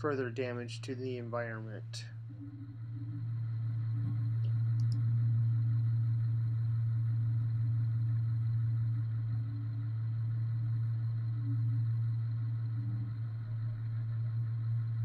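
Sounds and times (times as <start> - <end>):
diesel engine drone from cab: 0.0 - 15.0.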